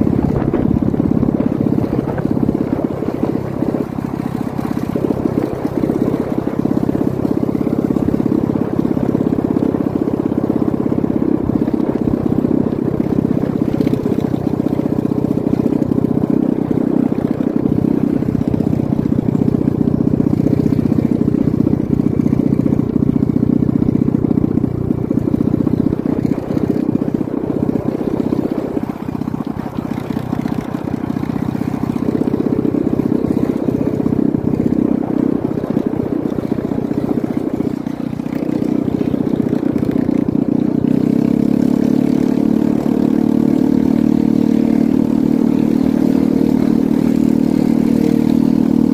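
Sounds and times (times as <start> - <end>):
vehicle engine driving: 0.0 - 48.9.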